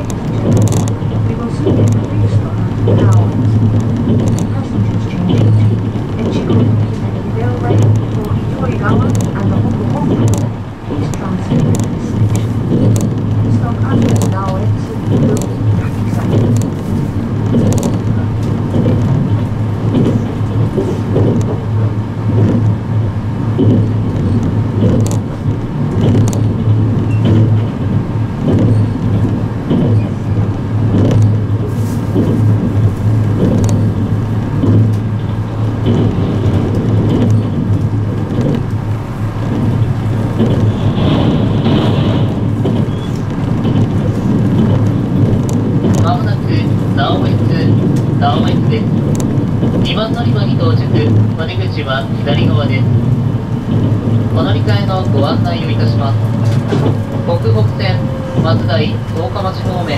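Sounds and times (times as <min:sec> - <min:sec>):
train cabin hum: 0:00.0 - 0:59.9
wheels clattering over rails: 0:00.0 - 0:59.9.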